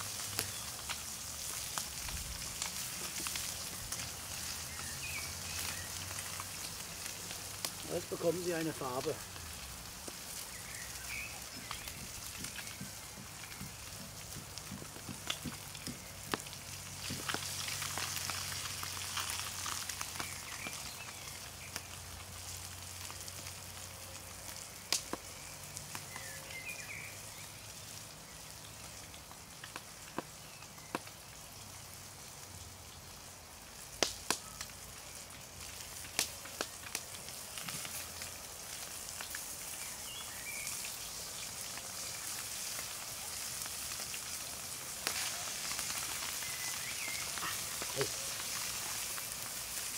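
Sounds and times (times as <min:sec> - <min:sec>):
fish sizzling over a fire: 0:00.0 - 0:49.9.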